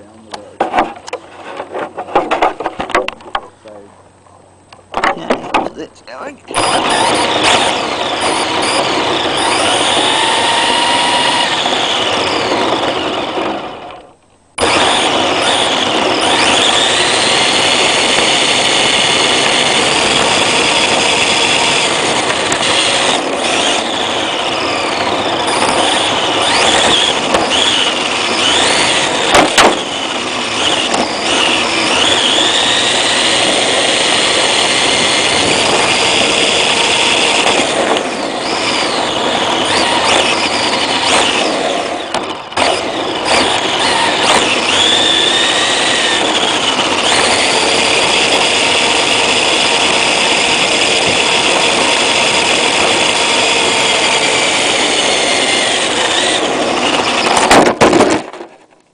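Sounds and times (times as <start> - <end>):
tyre and wind noise: 4.8 - 58.9
electric motor whine: 6.4 - 57.8.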